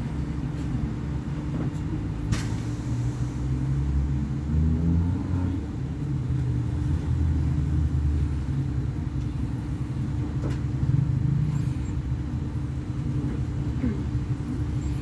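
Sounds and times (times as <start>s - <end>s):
diesel bus engine droning: 0.0s - 15.0s.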